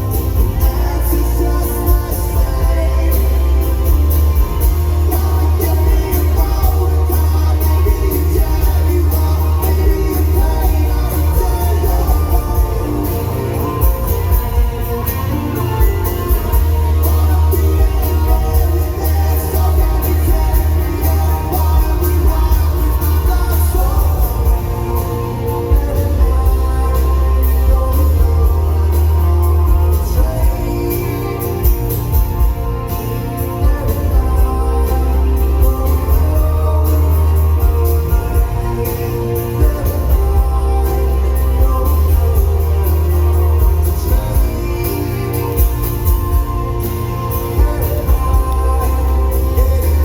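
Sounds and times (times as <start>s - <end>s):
live rock band: 0.0s - 50.0s
person singing: 0.0s - 50.0s.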